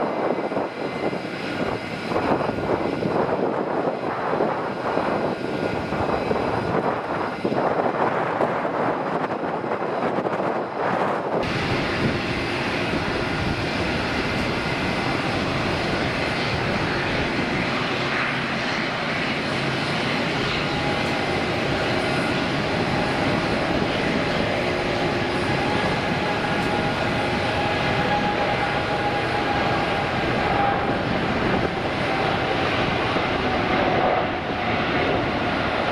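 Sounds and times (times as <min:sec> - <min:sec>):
jet engines rumbling and whining: 0:00.0 - 0:35.9.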